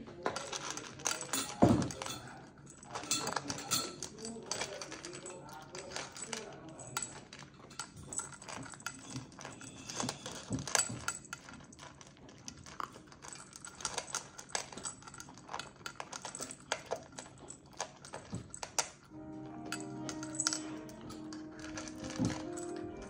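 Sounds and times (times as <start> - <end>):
dog crunching kibble: 2.9 - 23.0.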